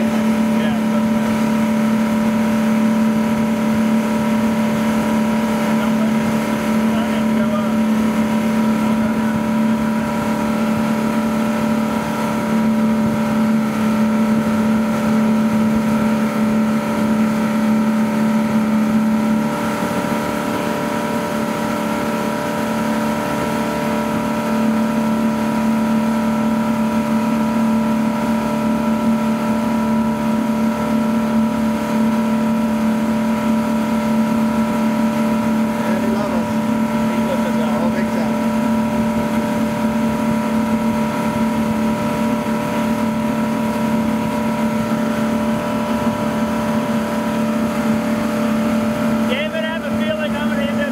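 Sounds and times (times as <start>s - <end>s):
boat engine running at high speed: 0.0s - 50.9s
rush of wind and water: 0.0s - 50.9s.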